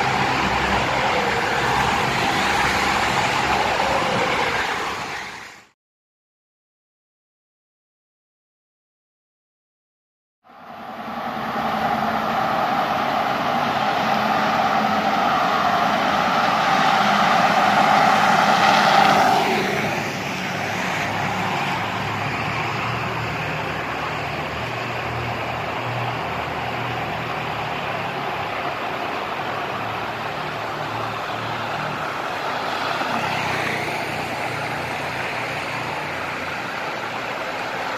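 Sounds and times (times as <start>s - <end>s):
vehicle passing through tunnel: 0.0s - 5.7s, 10.5s - 37.9s.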